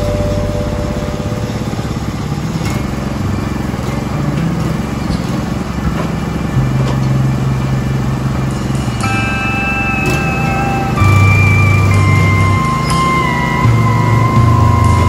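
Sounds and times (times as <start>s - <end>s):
low hum: 0.0s - 15.0s
sawmill engine droning: 0.0s - 15.0s.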